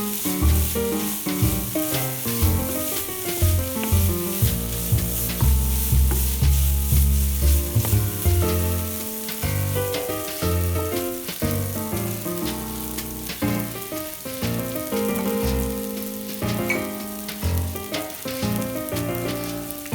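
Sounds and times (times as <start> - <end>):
food sizzling in a pan: 0.0 - 19.9
instrumental background music: 0.0 - 19.9.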